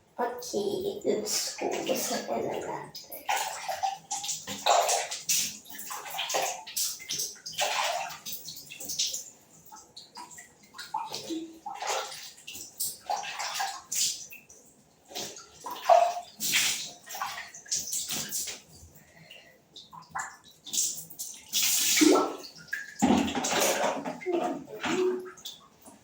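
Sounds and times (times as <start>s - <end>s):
water splashing: 0.6s - 26.0s.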